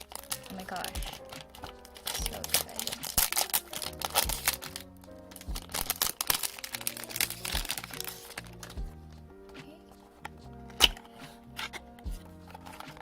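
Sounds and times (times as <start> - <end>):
packaging crinkling and rustling: 0.0 - 9.0, 10.7 - 13.0
background music with steady beat: 0.0 - 13.0.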